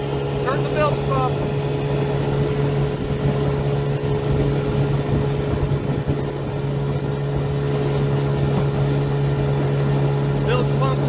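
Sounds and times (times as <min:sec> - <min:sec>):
motorboat engine hum: 0:00.0 - 0:11.0
rushing wind and water: 0:00.0 - 0:11.0.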